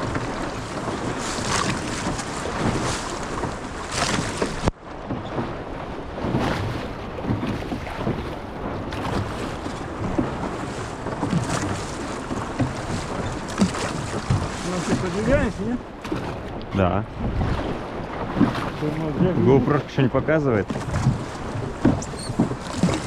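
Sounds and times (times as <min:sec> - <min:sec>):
water slapping against hull: 0:00.0 - 0:23.0
wind buffeting microphone: 0:00.0 - 0:23.0.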